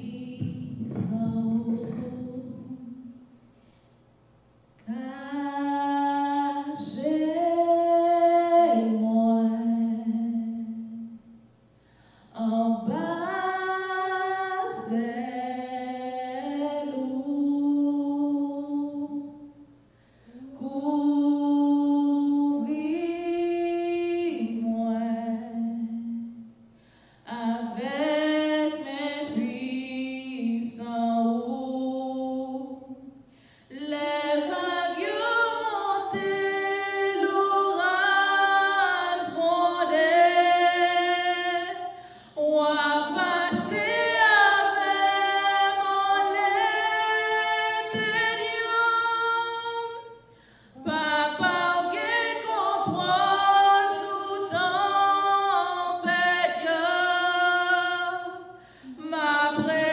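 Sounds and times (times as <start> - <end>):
woman singing unaccompanied: 0.0 - 3.2, 4.8 - 11.2, 12.4 - 19.5, 20.3 - 26.5, 27.3 - 33.1, 33.7 - 59.9.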